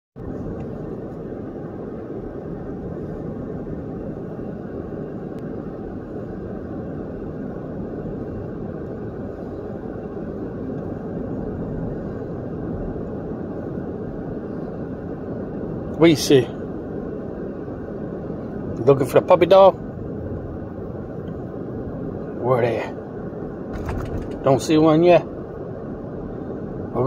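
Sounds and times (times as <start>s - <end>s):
car road and engine rumble: 0.2s - 27.0s.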